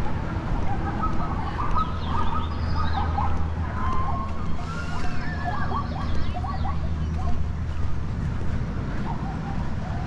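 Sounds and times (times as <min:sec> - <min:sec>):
birds chirping: 0:00.6 - 0:10.0.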